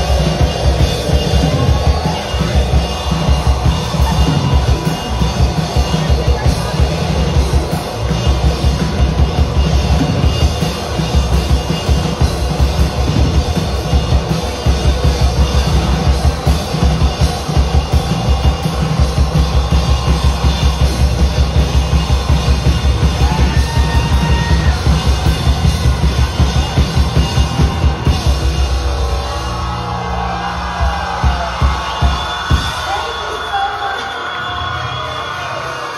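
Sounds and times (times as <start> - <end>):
bass guitar: 0.0 - 32.6
fast driving drumbeat: 0.0 - 35.9.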